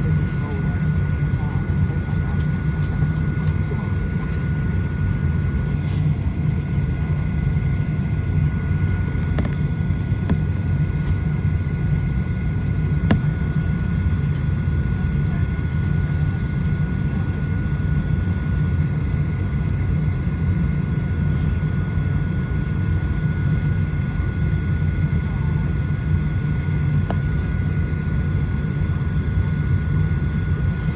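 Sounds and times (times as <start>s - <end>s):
air-conditioning airflow rumble: 0.0s - 30.9s.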